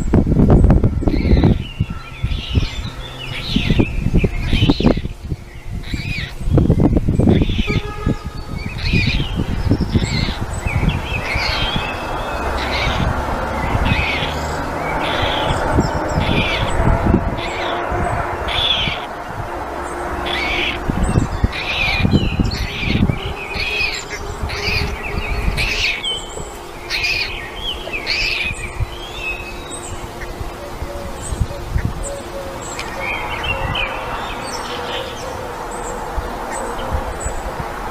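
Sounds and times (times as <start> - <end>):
birds chirping and squawking: 0.0 - 37.9
low rumbling noise: 0.0 - 37.9.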